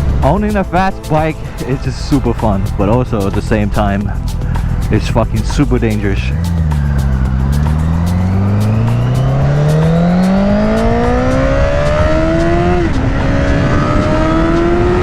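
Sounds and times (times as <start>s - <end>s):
motorcycle engine accelerating: 2.8s - 15.0s.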